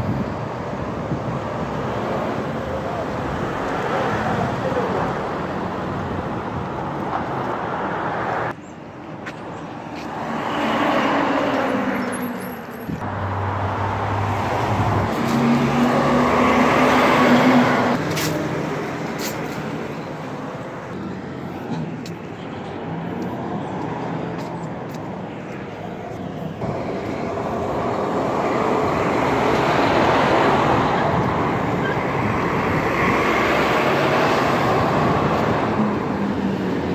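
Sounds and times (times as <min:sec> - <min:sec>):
vehicles driving past: 0:00.0 - 0:36.9.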